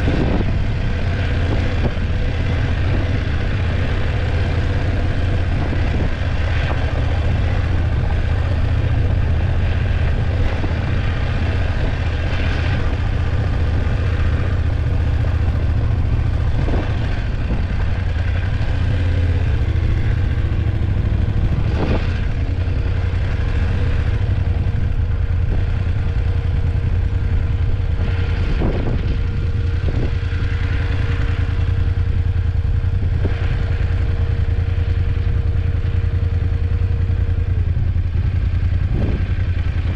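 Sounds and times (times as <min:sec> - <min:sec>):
knocks and clatter over road: 0:00.0 - 0:39.9
motorcycle engine running: 0:00.0 - 0:39.9.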